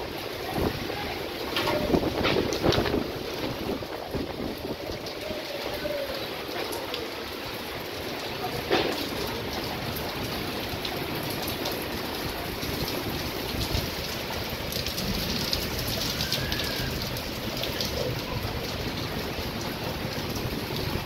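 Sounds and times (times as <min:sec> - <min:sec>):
heavy rain hissing: 0:00.0 - 0:21.0
raindrops striking close by: 0:00.0 - 0:21.0.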